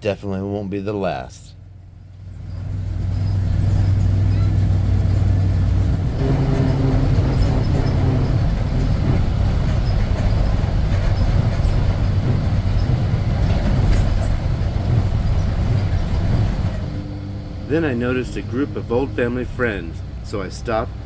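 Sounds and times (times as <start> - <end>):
bus engine rumbling: 0.0 - 21.0
road noise: 0.0 - 21.0.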